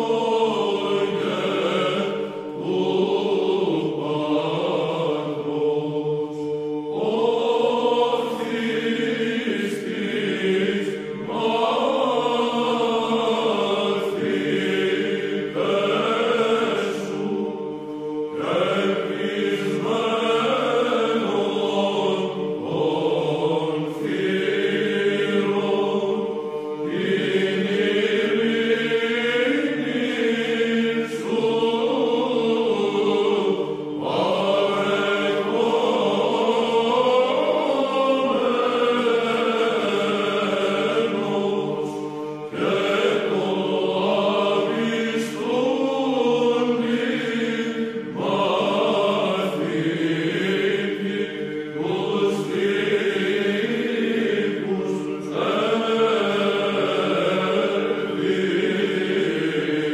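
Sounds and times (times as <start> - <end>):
choir chanting over a drone: 0.0 - 59.9.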